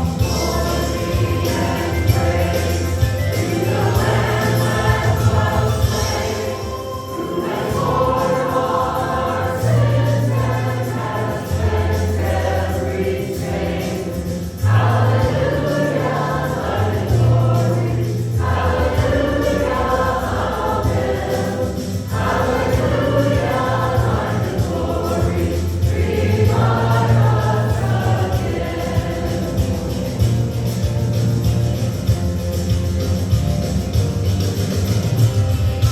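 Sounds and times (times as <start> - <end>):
group singing worship song: 0.0 - 31.2
instrumental backing with bass: 0.0 - 35.9.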